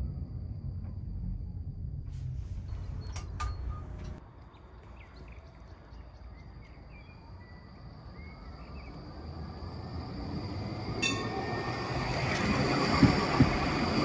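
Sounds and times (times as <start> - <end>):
tram rolling noise: 0.0 - 14.0.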